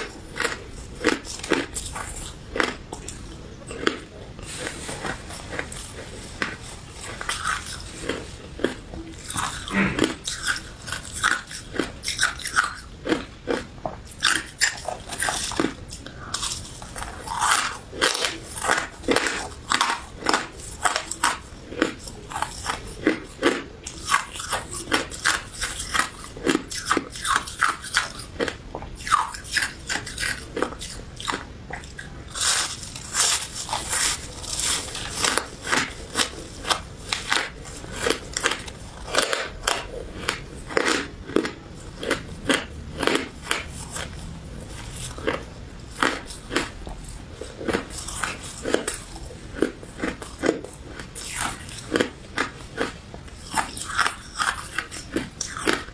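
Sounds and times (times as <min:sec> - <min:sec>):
crunchy ice being chewed: 0:00.0 - 0:55.9.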